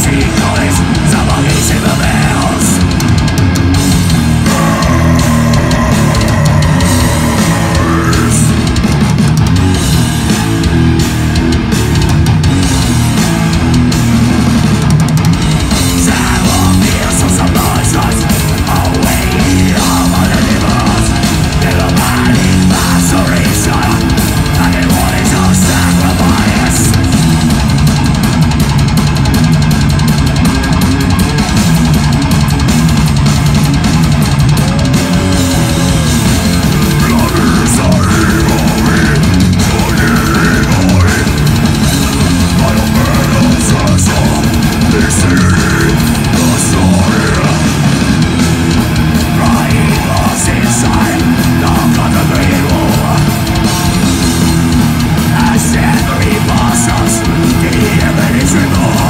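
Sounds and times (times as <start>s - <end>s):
distorted electric guitars: 0.0s - 59.0s
drum kit: 0.0s - 59.0s.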